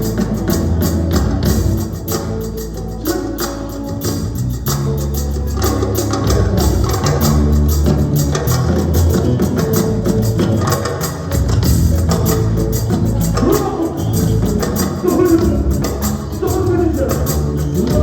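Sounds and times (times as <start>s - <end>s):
live band playing instrumental: 0.0s - 18.0s.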